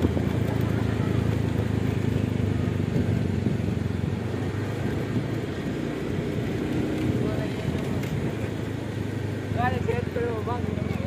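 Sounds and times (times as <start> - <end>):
traffic noise: 0.0 - 11.0
vehicle engine running: 0.0 - 11.0.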